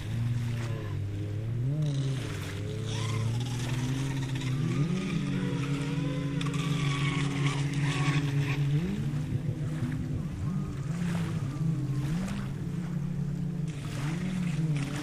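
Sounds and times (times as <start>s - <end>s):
speedboat motor whining: 0.0s - 15.0s.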